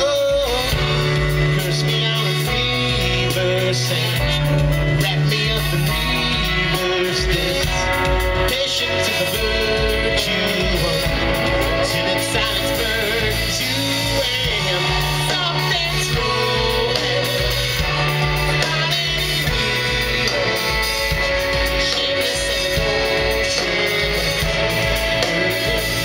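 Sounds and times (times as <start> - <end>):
bass line: 0.0 - 26.0
drums: 0.0 - 26.0
horn section: 0.0 - 26.0
keyboards: 0.0 - 26.0.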